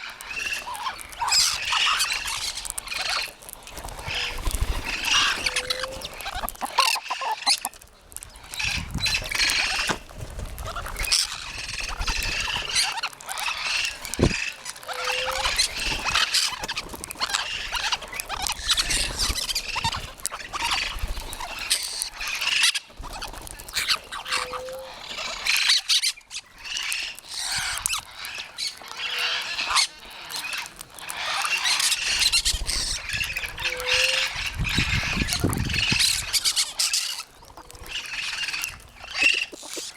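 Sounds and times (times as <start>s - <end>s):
parrots squawking and screeching: 0.0s - 39.9s.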